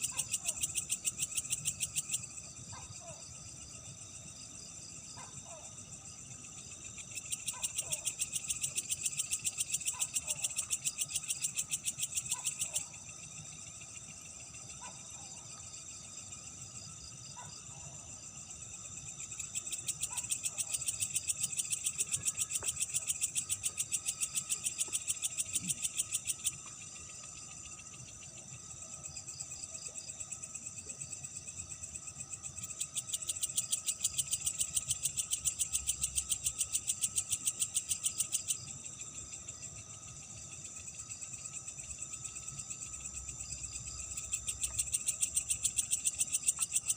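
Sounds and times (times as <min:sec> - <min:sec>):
insect chorus: 0:00.0 - 0:46.9
insects trilling: 0:00.0 - 0:46.9.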